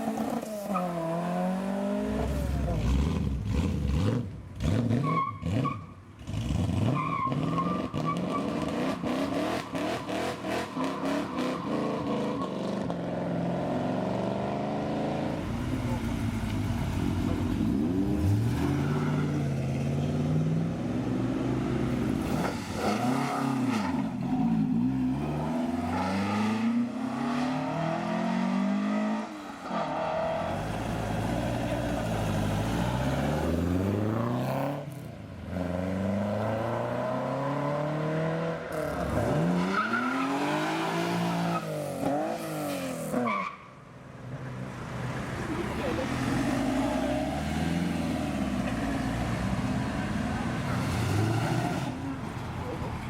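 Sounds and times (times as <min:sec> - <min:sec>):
car engines revving hard: 0:00.0 - 0:43.4, 0:44.6 - 0:53.0.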